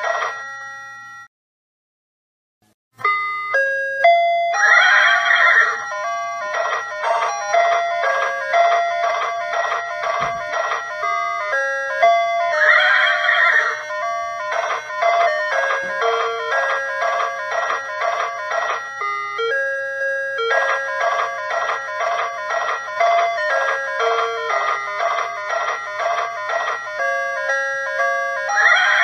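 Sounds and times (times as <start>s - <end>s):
ice cream van chimes: 0.0s - 1.3s, 3.0s - 29.0s.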